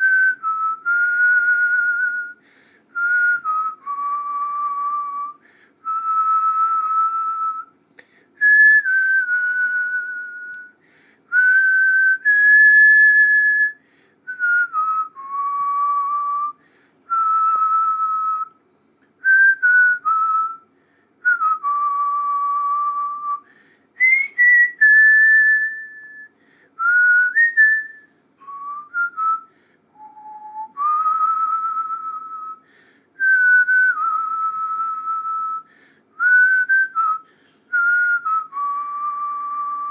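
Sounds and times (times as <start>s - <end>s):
person whistling a slow tune: 0.0s - 18.6s, 19.2s - 39.9s.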